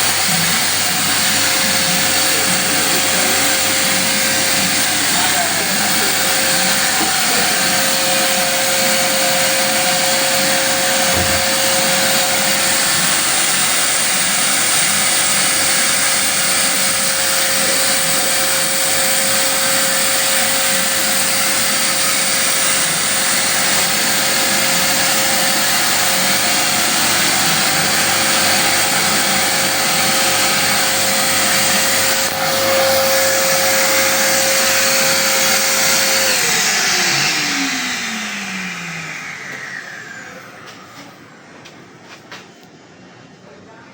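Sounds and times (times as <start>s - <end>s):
machine motor whine: 0.0s - 42.2s.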